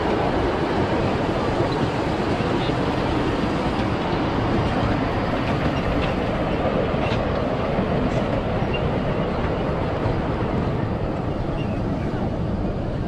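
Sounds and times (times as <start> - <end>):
miniature train running on track: 0.0 - 13.0.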